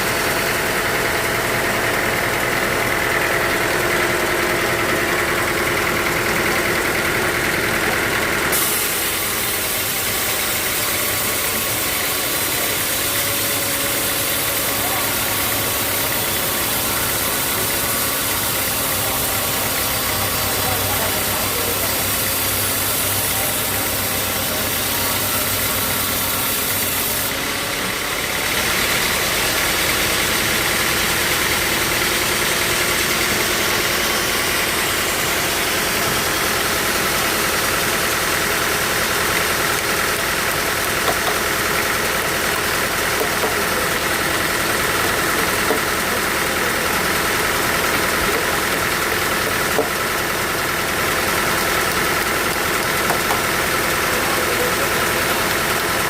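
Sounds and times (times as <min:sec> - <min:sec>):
sawmill machinery with high whine: 0:00.0 - 0:56.0.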